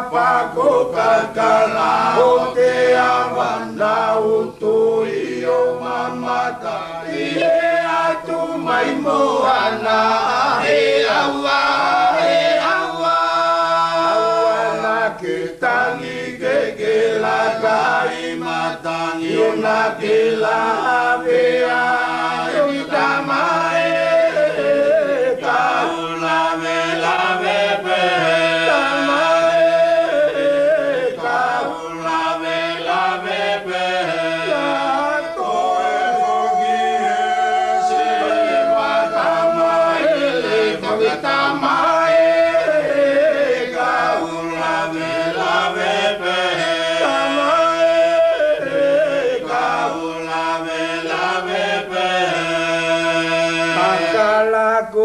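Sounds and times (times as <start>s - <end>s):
voices singing a slow chant: 0.0s - 55.0s.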